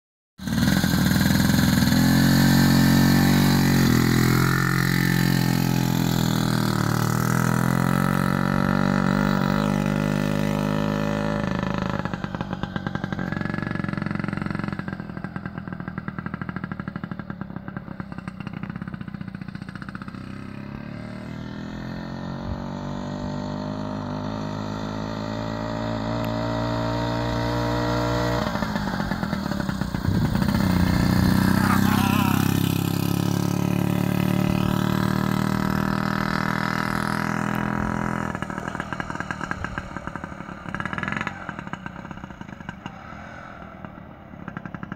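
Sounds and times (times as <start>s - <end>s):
motorcycle engine passing: 0.4s - 44.9s.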